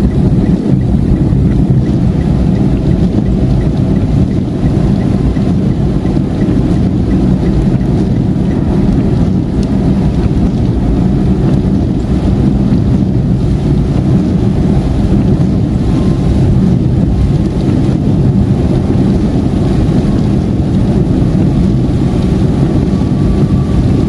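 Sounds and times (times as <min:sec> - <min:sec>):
car tyres and engine rumble: 0:00.0 - 0:24.0
faint regular ticking: 0:00.0 - 0:24.0
rain on car: 0:00.0 - 0:24.0.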